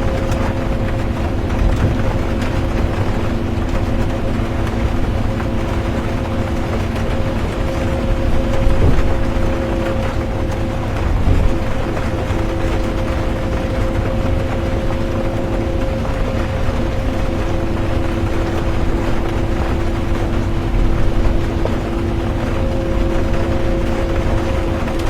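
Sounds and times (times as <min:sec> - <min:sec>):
bus engine and road rumble: 0:00.0 - 0:25.0
drivetrain whining tones: 0:00.0 - 0:25.0.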